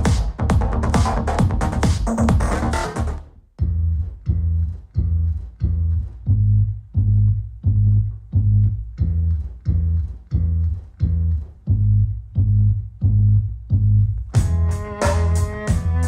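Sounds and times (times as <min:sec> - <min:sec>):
plucked bass line: 0:00.0 - 0:16.0.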